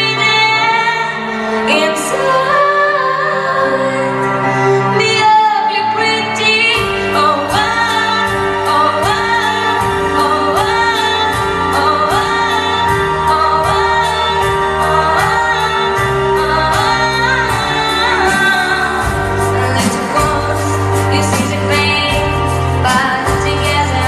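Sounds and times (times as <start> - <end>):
backing track: 0.0 - 24.0
girl singing pop ballad: 0.0 - 24.0.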